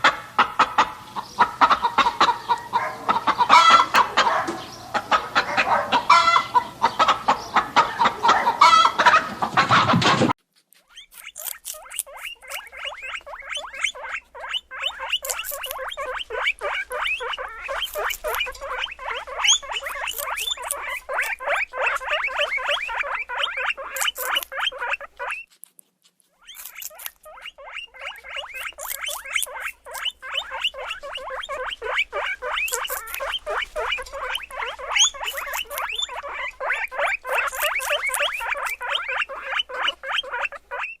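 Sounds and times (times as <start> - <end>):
animals squeaking: 0.0 - 41.0.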